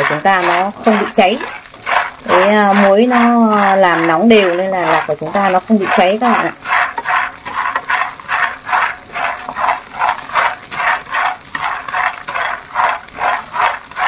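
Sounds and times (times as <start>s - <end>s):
peanuts rattling in frying pan: 0.0s - 14.0s.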